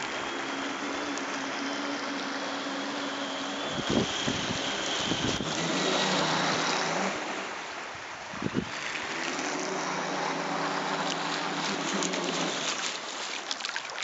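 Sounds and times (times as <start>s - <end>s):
model boat motor hum: 0.0s - 14.0s.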